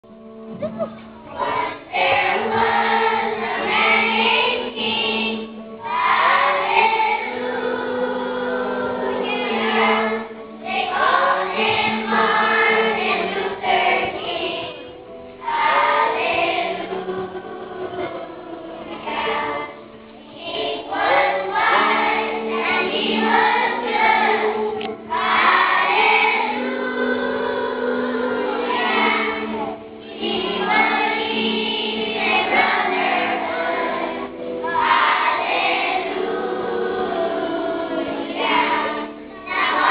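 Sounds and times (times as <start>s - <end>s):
choir singing: 1.3s - 39.9s.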